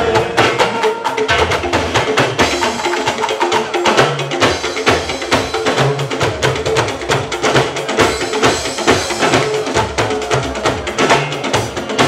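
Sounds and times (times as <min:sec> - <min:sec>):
band music: 0:00.0 - 0:12.0
sharp drum strokes: 0:00.0 - 0:12.0.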